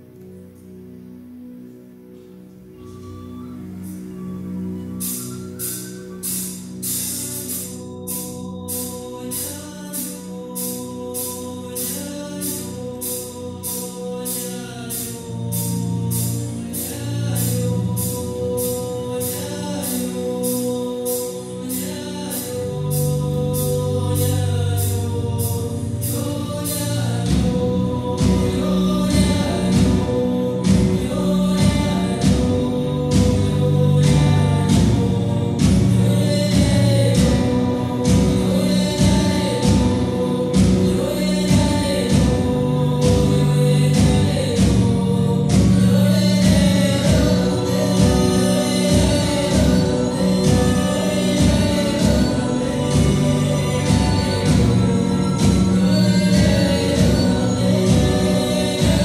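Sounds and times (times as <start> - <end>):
orchestral chords: 0.0 - 59.0
person singing: 0.0 - 59.0
cymbal beat: 5.0 - 59.0
metal band playing: 5.0 - 59.0.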